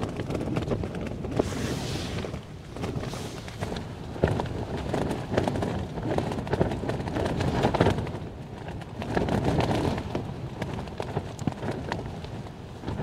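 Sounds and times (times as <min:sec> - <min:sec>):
rain ticking on tent: 0:00.0 - 0:13.0
tent fabric flapping: 0:00.0 - 0:13.0
wind buffeting a tent: 0:00.0 - 0:13.0.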